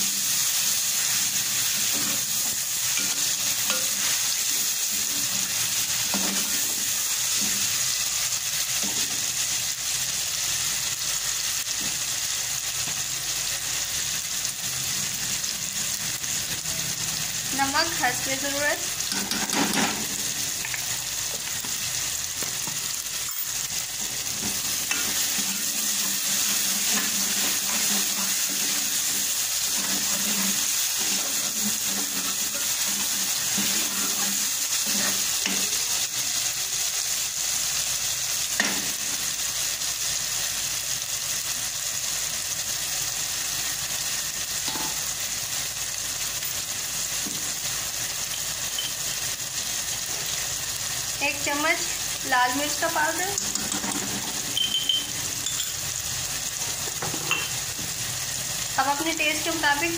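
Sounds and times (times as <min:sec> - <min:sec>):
masala sizzling in oil: 0:00.0 - 0:59.9.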